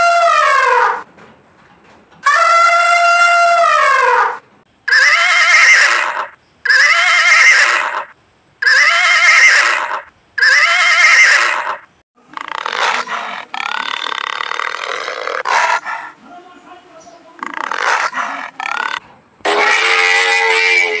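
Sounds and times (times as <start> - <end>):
loud wavering animal cry: 0.0 - 1.1, 2.2 - 16.1, 17.4 - 21.0
rough noisy animal sound: 0.0 - 1.3, 2.1 - 21.0.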